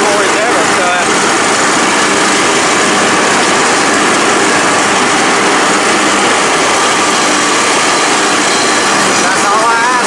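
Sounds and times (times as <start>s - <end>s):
riding lawnmower engine cutting grass: 0.0s - 10.0s.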